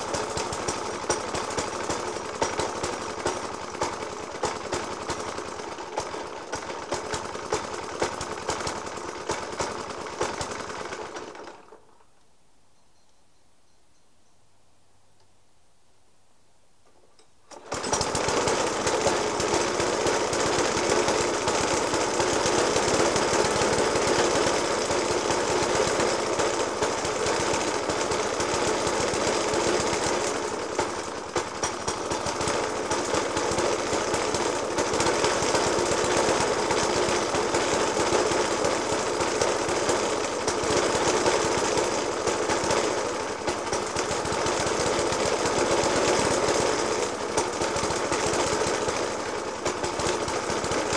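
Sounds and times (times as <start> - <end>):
lawnmower engine idling roughly: 0.0 - 12.0, 17.5 - 50.9.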